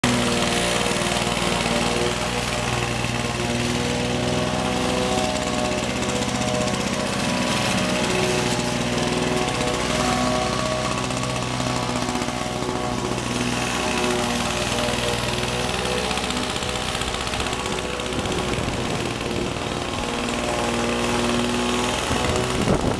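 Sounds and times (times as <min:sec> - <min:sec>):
lawn mower running: 0:00.0 - 0:22.9.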